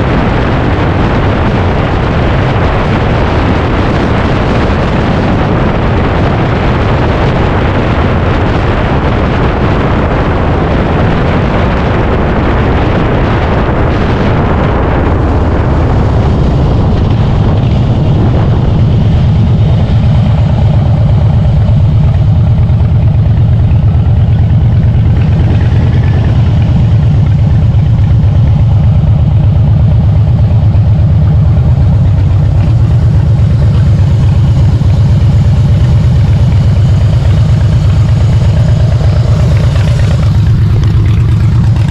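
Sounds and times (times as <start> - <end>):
motorcycle engine idling: 0.0 - 41.9
wind rush on microphone: 0.0 - 41.9.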